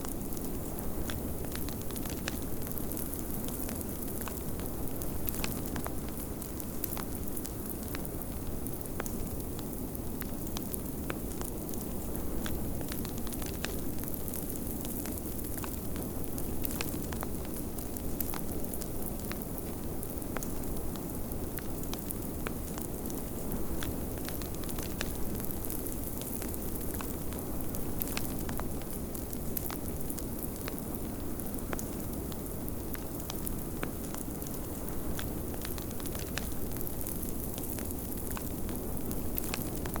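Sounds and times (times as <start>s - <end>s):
fireplace fire crackling: 0.0s - 40.0s.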